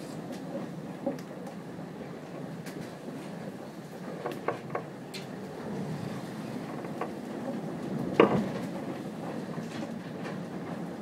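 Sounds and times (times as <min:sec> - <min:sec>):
rough sea rushing along hull: 0:00.0 - 0:11.0
wind buffeting microphone: 0:00.2 - 0:11.0.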